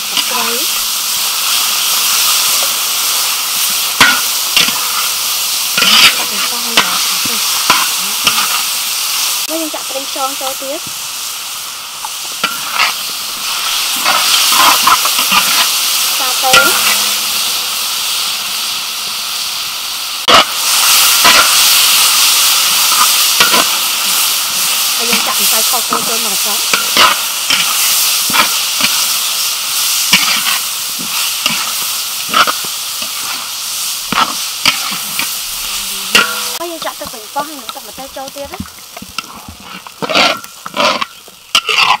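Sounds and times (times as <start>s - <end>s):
beef sizzling in a wok: 0.0s - 42.0s
metal spatula scraping wok: 0.0s - 42.0s.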